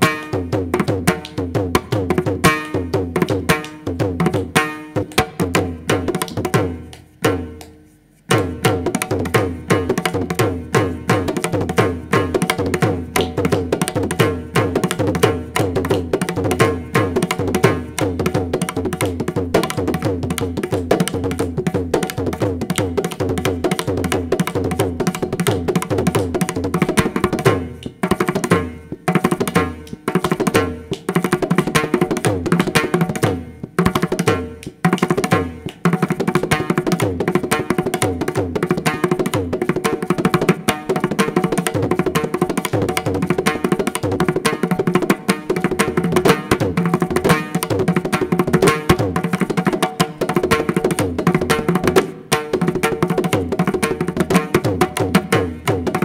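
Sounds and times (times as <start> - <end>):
hand drum strokes: 0.0 - 56.0.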